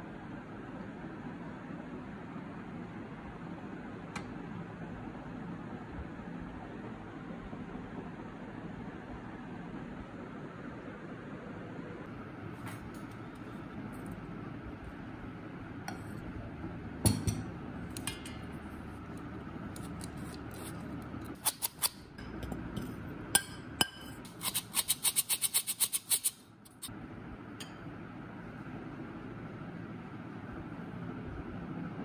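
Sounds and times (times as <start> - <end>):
steady low hum: 0.0 - 25.0, 26.5 - 32.0.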